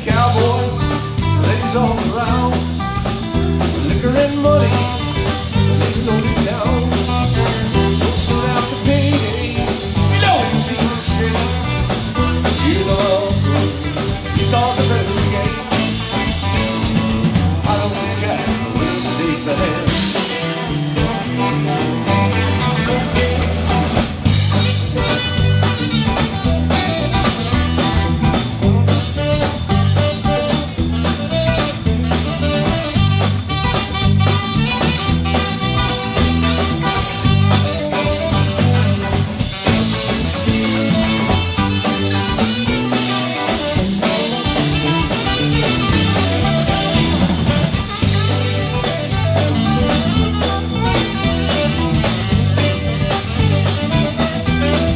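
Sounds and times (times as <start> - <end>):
drums: 0.0 - 54.9
guitar playing: 0.0 - 54.9.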